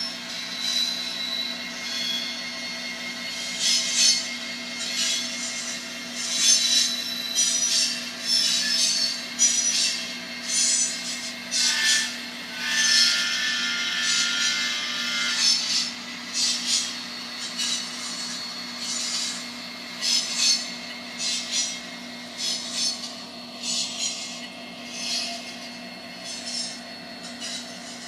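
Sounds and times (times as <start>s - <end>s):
model locomotive engine hum: 0.0s - 28.0s.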